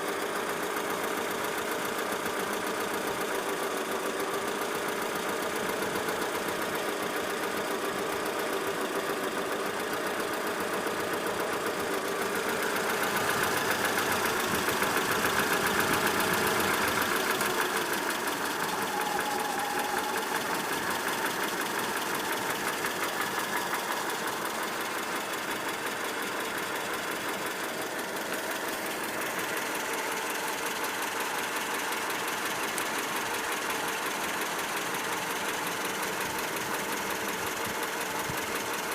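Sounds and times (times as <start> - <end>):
petrol engine running with fast knock: 0.1 - 38.9.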